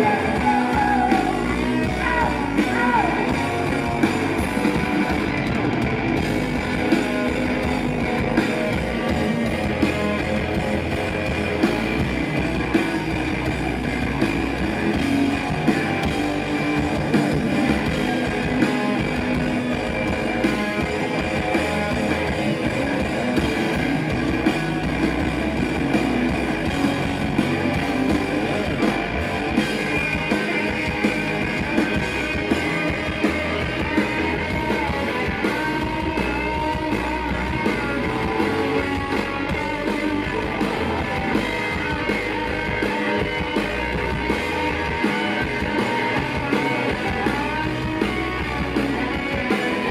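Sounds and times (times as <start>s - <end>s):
drum kit steady beat: 0.0s - 49.9s
electric guitars strummed: 0.0s - 49.9s.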